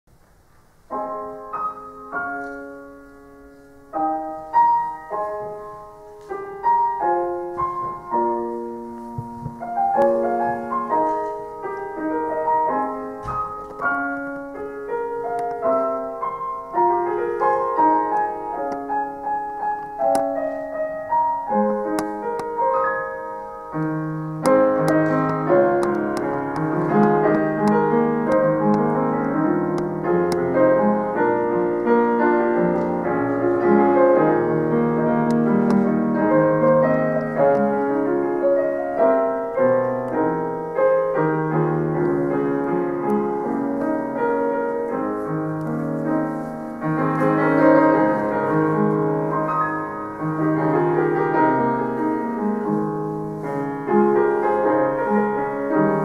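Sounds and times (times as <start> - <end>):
solo piano: 0.1 - 56.0.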